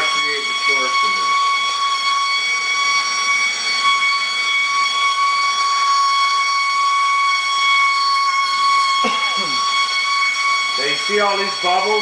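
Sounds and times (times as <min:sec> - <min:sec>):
gas torch hissing and whistling: 0:00.0 - 0:12.0.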